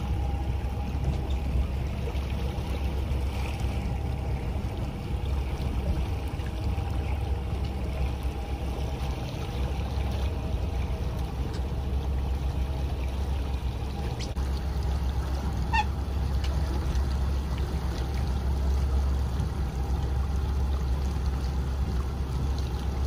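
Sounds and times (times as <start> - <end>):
boat engine rumbling: 0.0 - 23.0
water splashing against hull: 0.0 - 23.0.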